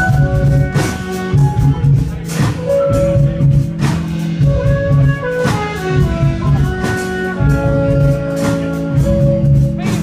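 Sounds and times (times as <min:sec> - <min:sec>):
drum and cymbal accents: 0:00.0 - 0:10.0
jazz fusion band playing: 0:00.0 - 0:10.0.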